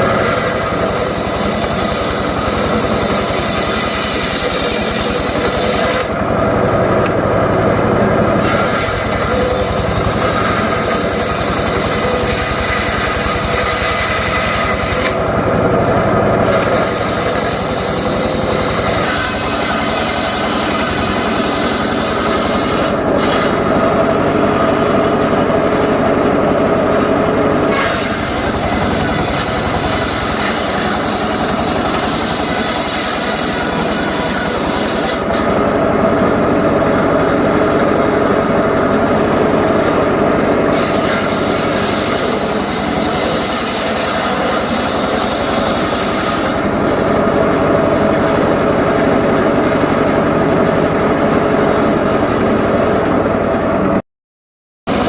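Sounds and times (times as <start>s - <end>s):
circular saw cutting wood: 0.0s - 54.0s
engine running under load: 0.0s - 54.0s.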